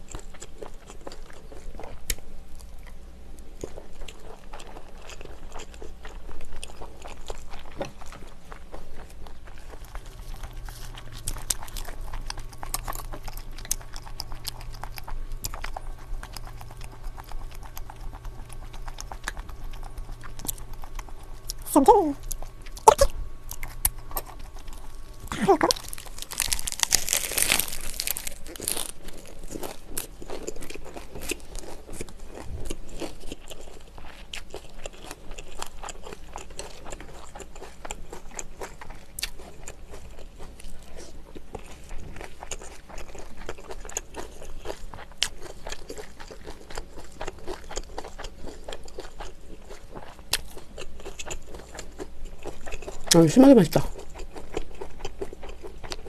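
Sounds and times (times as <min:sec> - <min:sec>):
crunching bite of leafy wrap: 0:00.0 - 0:56.0
wet chewing: 0:00.0 - 0:56.0.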